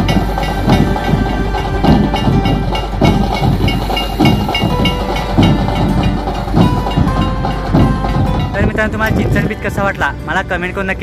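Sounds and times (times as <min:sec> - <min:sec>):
loud drum-driven music: 0:00.0 - 0:10.4.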